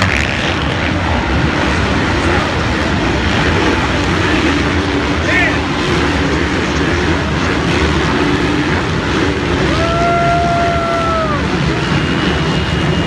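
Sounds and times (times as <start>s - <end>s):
motocross bike engines racing: 0.0s - 13.0s.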